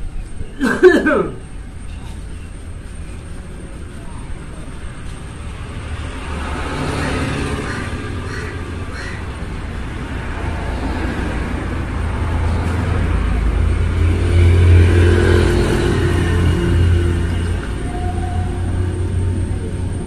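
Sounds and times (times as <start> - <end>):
passing vehicle engine rumble: 1.3 - 20.0.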